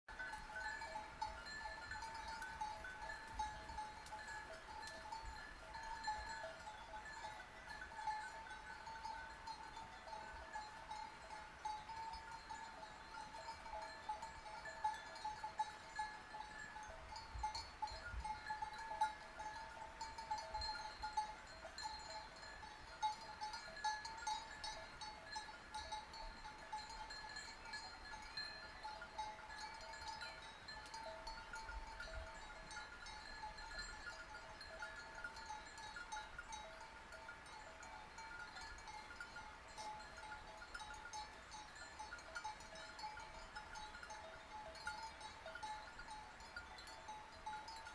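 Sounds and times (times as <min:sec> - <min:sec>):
sheep bells clanking: 0:00.1 - 0:47.9.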